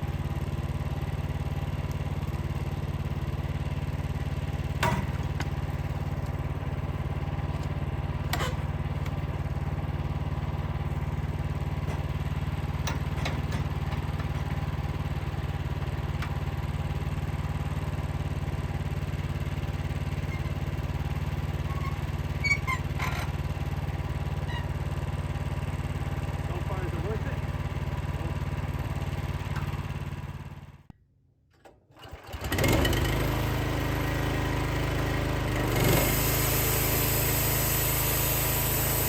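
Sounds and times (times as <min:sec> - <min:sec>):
sawmill engine running steadily: 0:00.0 - 0:30.8, 0:32.0 - 0:39.0.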